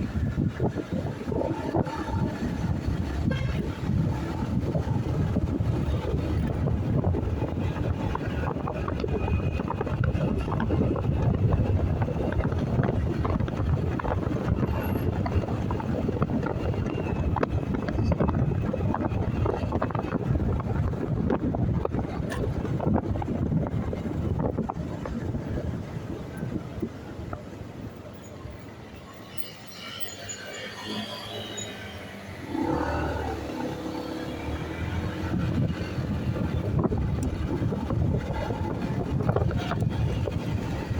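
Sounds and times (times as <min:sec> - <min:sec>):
wind buffeting microphone: 0:00.0 - 0:29.6, 0:30.4 - 0:40.9
road noise: 0:00.0 - 0:40.9.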